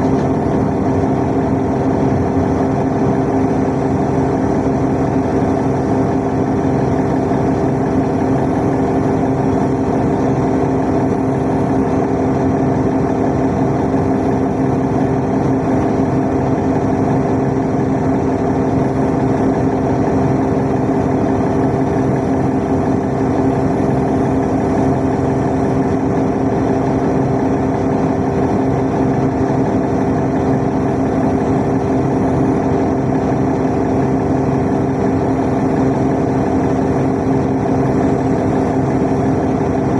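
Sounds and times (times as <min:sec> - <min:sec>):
bus engine hum: 0:00.0 - 0:39.9.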